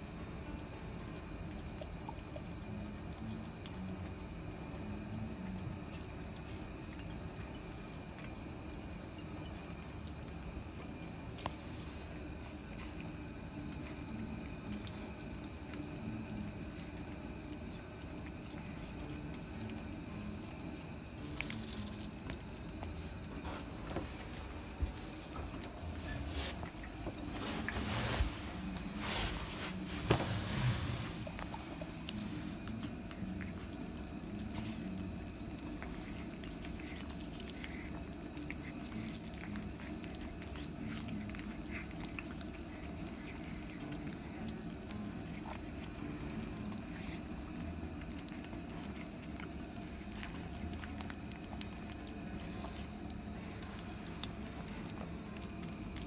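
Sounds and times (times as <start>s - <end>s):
kittens chewing: 0.0s - 21.4s, 22.2s - 56.0s.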